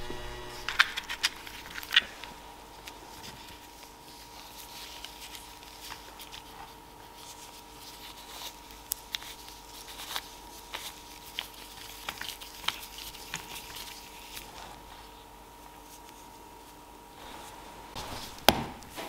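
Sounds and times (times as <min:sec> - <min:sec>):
faint steady hum: 0:00.0 - 0:19.0
gloved hands clicking and rustling: 0:00.7 - 0:16.8.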